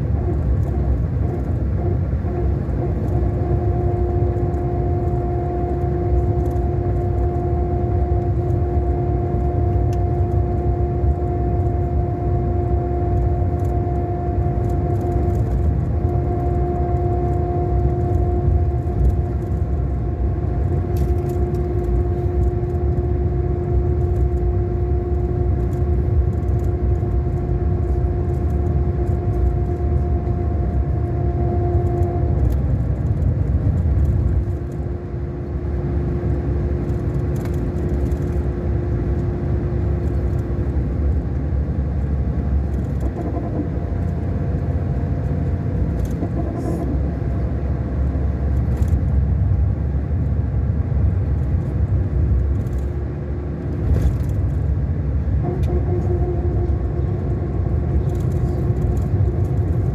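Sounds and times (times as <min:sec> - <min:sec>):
diesel engine rumble: 0:00.0 - 0:59.9
engine whine: 0:00.0 - 0:59.9.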